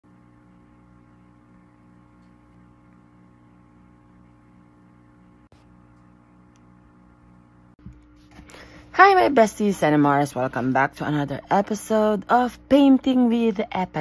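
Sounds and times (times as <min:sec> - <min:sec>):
pulsing electrical hum: 0:00.0 - 0:14.0.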